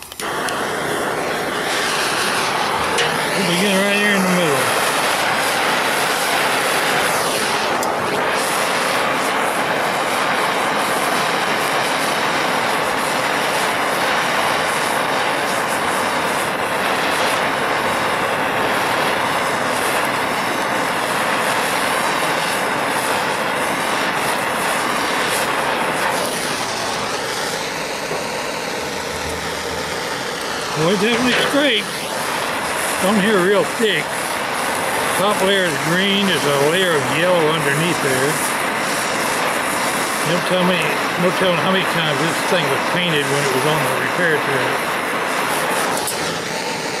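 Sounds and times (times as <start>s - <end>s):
propane torch flame hissing: 0.0s - 47.0s.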